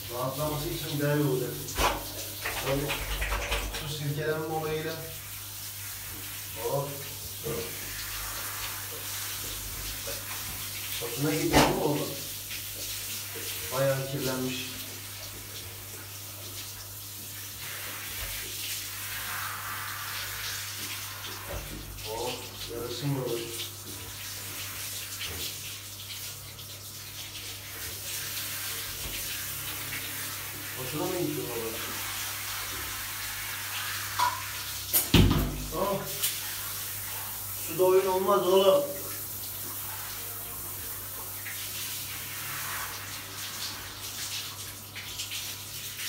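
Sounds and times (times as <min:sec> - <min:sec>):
shower spraying water: 0:00.0 - 0:46.0.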